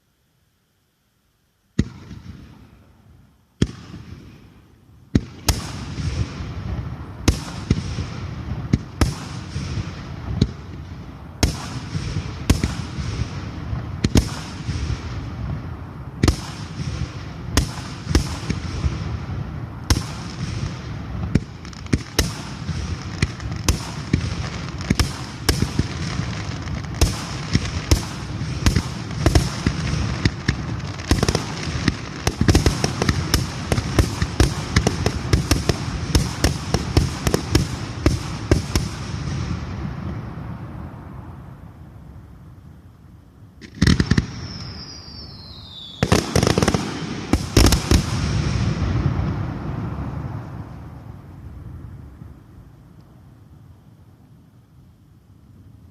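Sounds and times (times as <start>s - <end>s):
fireworks barrage of sharp bangs: 1.8s - 2.9s, 3.6s - 41.0s, 43.6s - 51.2s.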